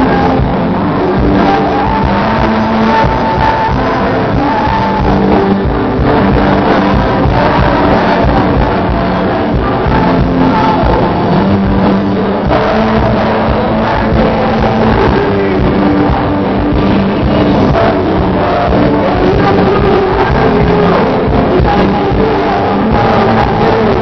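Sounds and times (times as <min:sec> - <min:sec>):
worship band playing with singing: 0:00.0 - 0:24.0.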